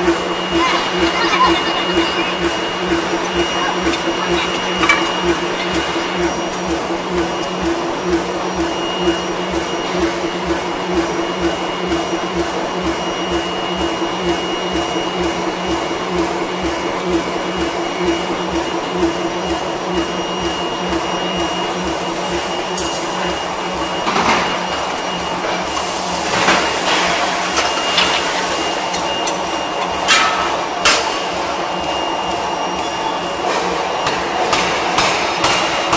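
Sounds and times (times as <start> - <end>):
machine drone with pulse: 0.0 - 35.9.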